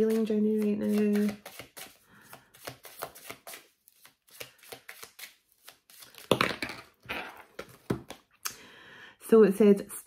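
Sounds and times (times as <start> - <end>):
cards being shuffled: 0.0 - 8.3.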